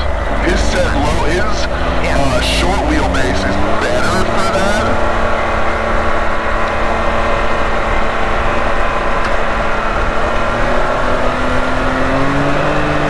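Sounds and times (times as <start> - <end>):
turbocharged engine running: 0.0 - 13.0.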